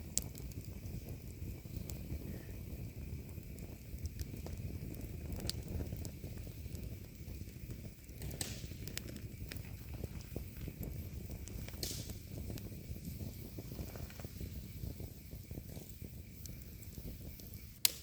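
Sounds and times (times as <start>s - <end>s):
campfire flames rumbling: 0.0s - 18.0s
fire popping and crackling: 0.0s - 18.0s.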